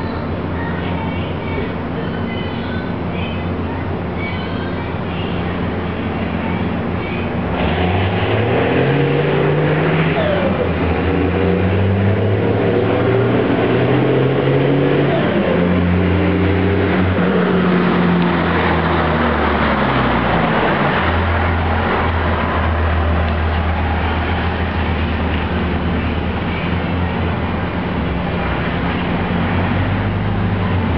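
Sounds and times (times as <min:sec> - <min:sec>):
diesel truck engine accelerating: 0:00.0 - 0:30.9.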